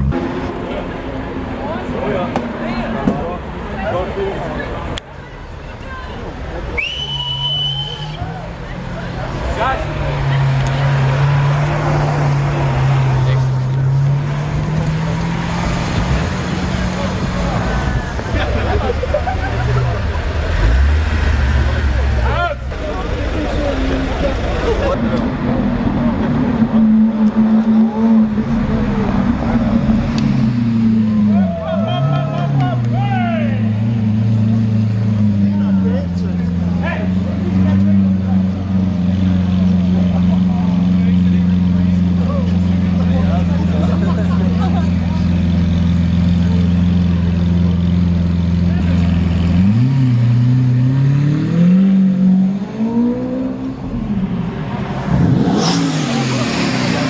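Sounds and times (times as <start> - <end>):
sports car engine droning: 0.0 - 57.0.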